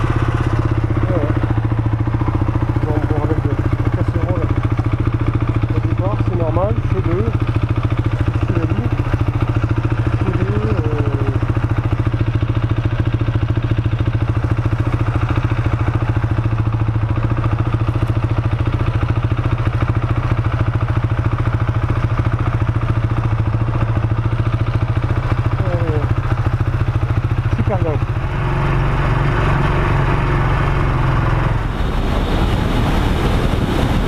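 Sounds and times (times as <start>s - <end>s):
motorcycle engine idling: 0.0s - 32.3s.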